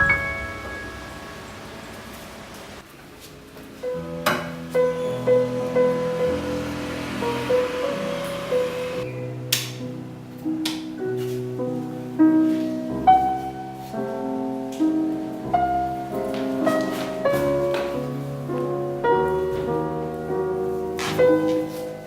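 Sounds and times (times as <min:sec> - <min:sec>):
piano background music: 0:00.0 - 0:02.8, 0:03.7 - 0:22.0.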